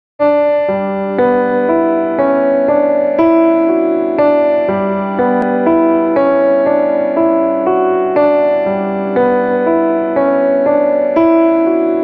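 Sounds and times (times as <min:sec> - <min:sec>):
electric piano chords: 0:00.2 - 0:12.0.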